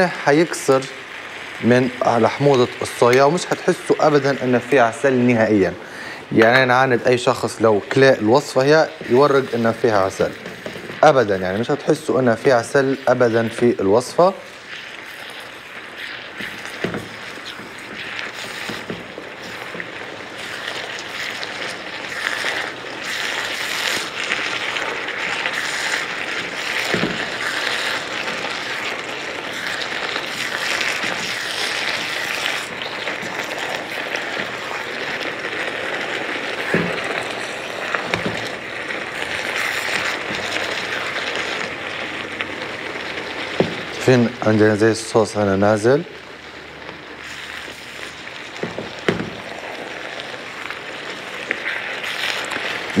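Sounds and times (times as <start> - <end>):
food sizzling in a frying pan: 0.0 - 53.0.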